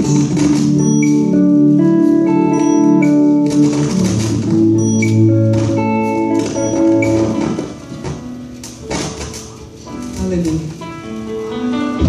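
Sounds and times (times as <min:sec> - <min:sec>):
gospel band playing: 0:00.0 - 0:10.1.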